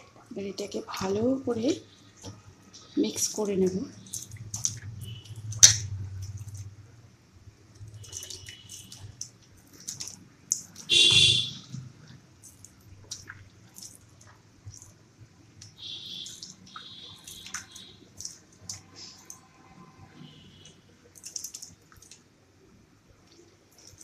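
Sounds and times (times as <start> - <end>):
wet squelches of fruit pulp: 1.3 - 24.0
water splashes and drips: 2.2 - 6.8, 7.7 - 19.5, 20.2 - 22.4, 23.2 - 24.0.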